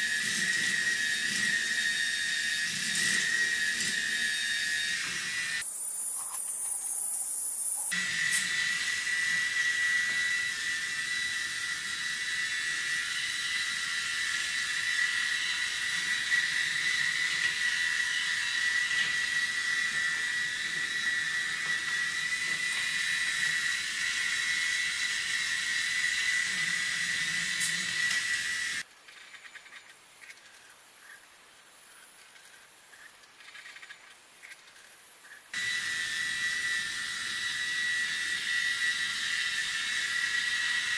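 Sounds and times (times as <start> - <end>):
toy train motor whine: 0.0 - 31.2, 31.8 - 40.9.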